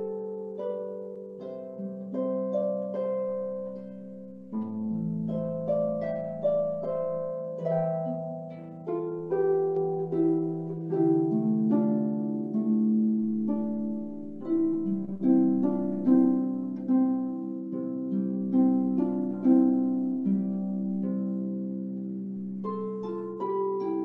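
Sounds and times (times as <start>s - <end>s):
harp melody: 0.0s - 24.0s.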